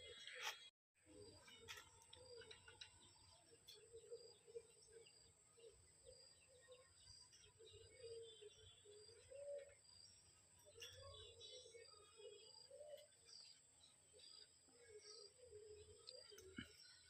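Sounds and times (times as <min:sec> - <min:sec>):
doves cooing softly: 0:00.0 - 0:10.0, 0:10.6 - 0:13.3, 0:14.1 - 0:17.0
faint bird chirps and ticks: 0:00.0 - 0:17.0.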